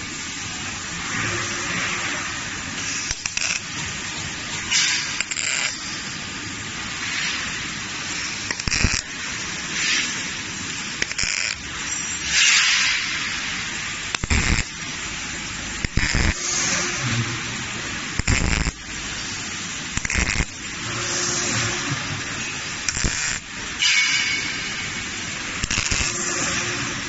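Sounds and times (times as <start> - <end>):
steady background hiss: 0.0 - 27.0
welding arc crackling and hissing: 0.0 - 27.0.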